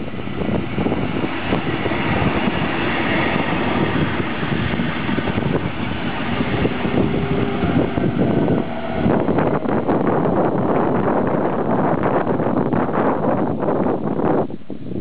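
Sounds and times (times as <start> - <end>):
faint locomotive hum: 0.0 - 14.7
train wheels rumbling on rails: 0.0 - 14.7.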